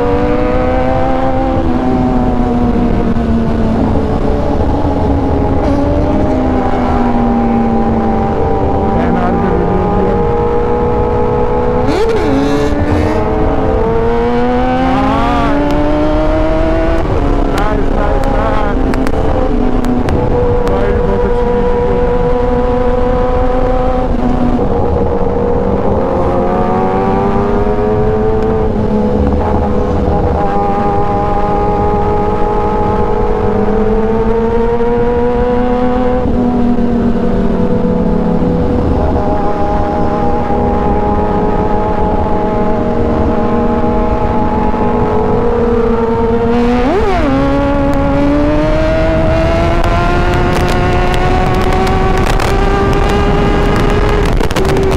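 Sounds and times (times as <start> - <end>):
heavy wind noise: 0.0 - 54.9
motorcycle engine accelerating: 0.0 - 54.9
other motorcycles passing: 0.0 - 54.9.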